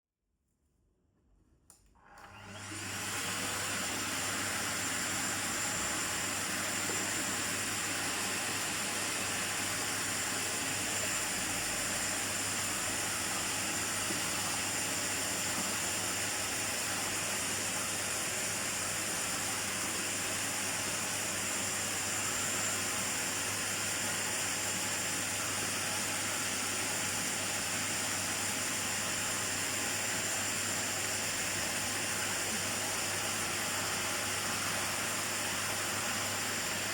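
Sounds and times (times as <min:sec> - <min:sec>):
vacuum cleaner running: 0:02.0 - 0:36.9.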